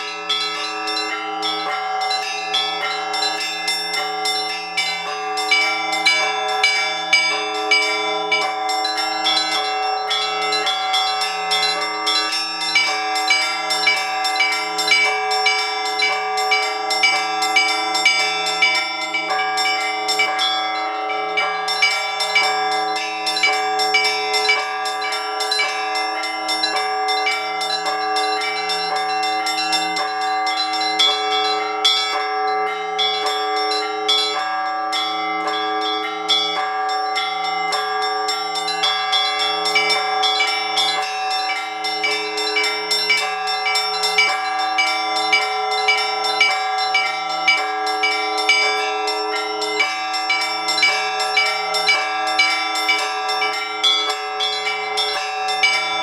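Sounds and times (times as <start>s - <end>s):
middle bells ringing: 0.0s - 56.0s
small treble bells chiming: 0.0s - 56.0s.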